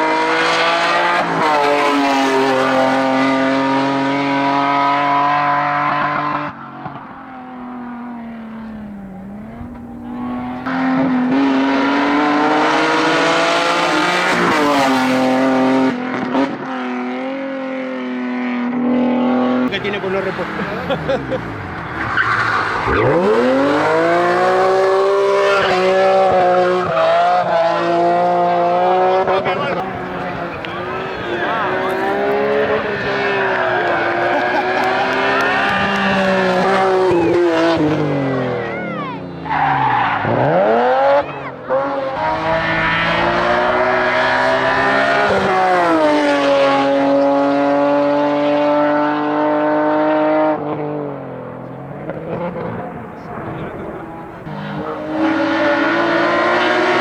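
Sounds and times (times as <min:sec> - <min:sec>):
racing car engine at full throttle: 0:00.0 - 0:57.0.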